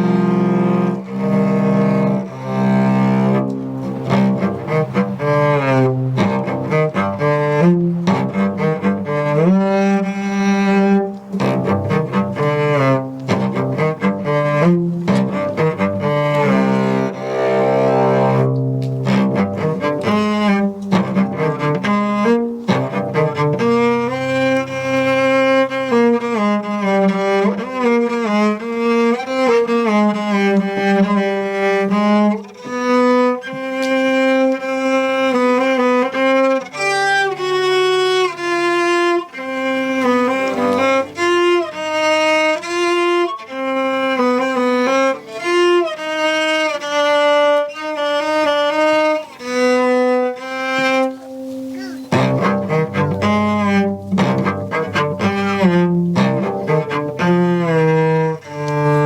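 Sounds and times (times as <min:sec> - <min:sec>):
higher string melody: 0:00.0 - 0:59.0
low bowed string line: 0:00.0 - 0:59.0.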